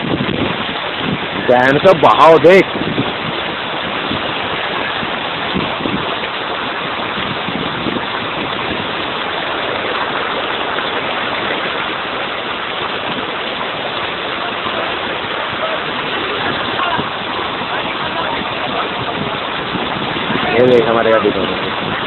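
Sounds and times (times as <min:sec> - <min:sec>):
water rushing from a dam: 0:00.0 - 0:22.0.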